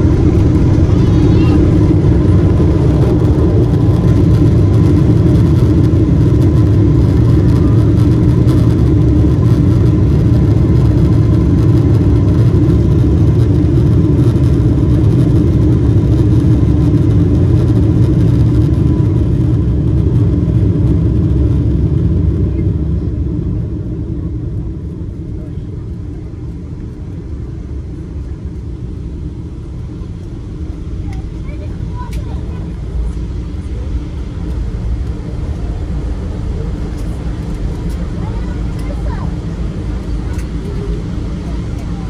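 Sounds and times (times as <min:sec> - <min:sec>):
jet engines roaring in cabin: 0:00.0 - 0:42.0.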